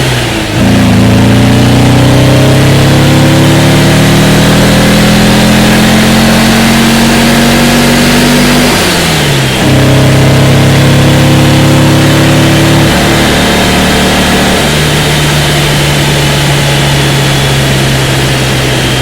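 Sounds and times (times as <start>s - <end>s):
car engine pulling under load: 0.0s - 19.0s.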